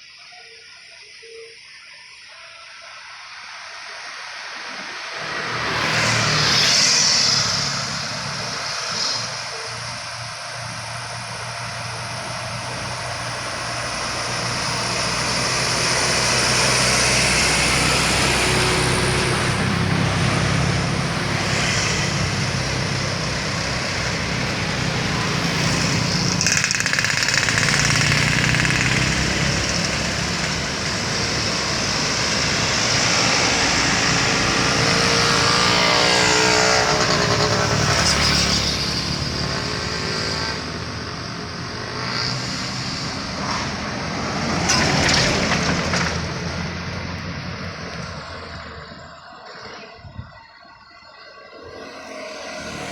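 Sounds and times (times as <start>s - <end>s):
vehicle passing close: 4.3s - 49.3s, 51.5s - 52.9s
vehicle engines climbing under load: 6.7s - 49.3s.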